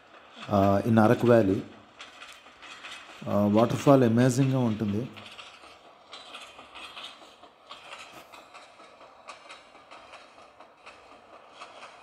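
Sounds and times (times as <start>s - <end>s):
train clattering on track: 0.0s - 12.0s.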